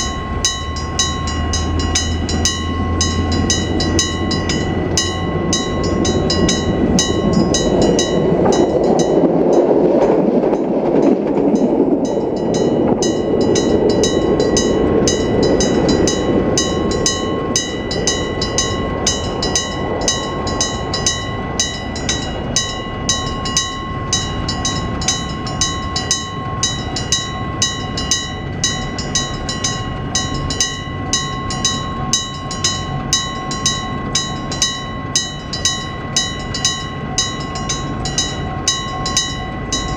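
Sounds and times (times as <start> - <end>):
level crossing bell ringing: 0.0 - 39.9
train passing: 0.0 - 39.9.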